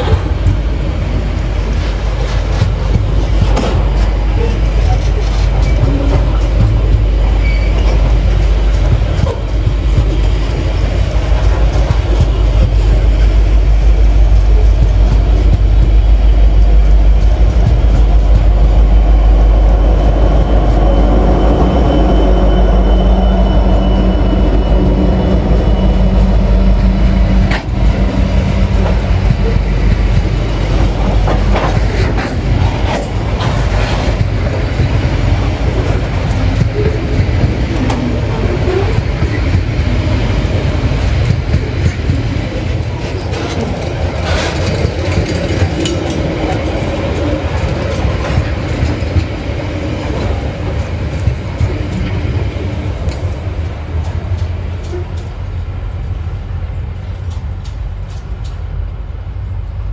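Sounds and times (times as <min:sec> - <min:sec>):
wagon wheels clacking on rail joints: 0:00.0 - 0:21.0, 0:25.7 - 0:56.1
locomotive engine rumble: 0:00.0 - 0:59.9.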